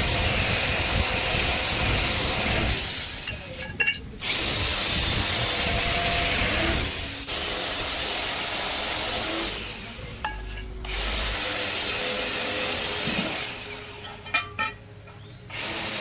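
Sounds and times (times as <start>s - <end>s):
power tool running: 0.0s - 3.4s, 4.2s - 10.2s, 10.8s - 14.1s, 15.5s - 16.0s.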